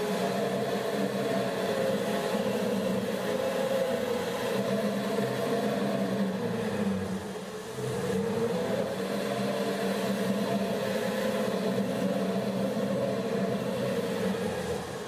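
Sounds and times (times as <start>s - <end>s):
noise machines droning: 0.0s - 15.0s.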